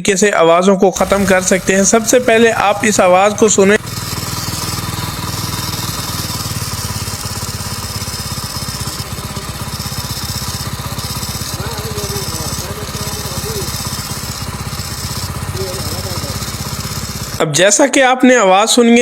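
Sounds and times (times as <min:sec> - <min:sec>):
motorcycle engine idling with rattle: 0:01.0 - 0:17.5.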